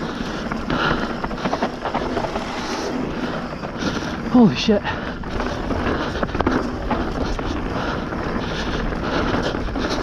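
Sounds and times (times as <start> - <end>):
bike rattling and knocking: 0.0 - 10.0
tyre roar on dirt: 0.0 - 10.0
wind rushing over microphone: 0.0 - 10.0.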